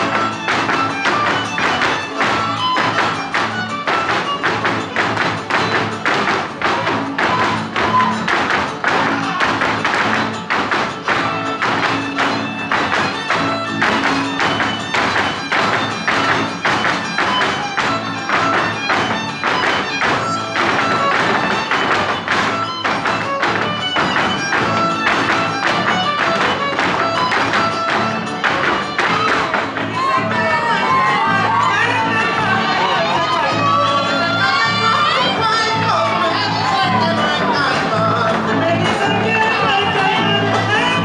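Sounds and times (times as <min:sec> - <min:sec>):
heels striking stage in rhythm: 0:00.0 - 0:41.0
string trio playing folk music: 0:00.0 - 0:41.0.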